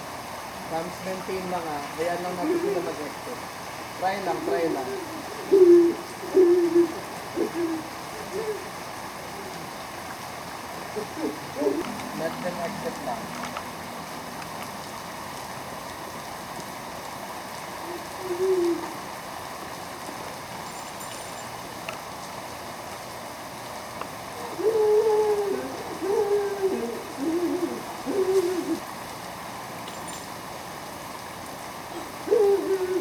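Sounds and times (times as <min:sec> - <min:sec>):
steady rain pouring: 0:00.0 - 0:33.0.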